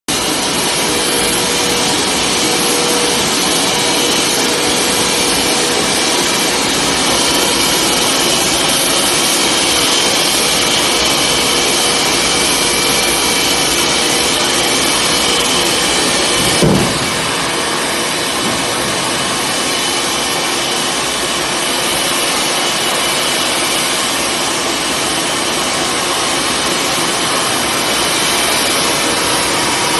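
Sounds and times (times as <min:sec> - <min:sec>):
machinery whine and rush: 0:00.1 - 0:29.9.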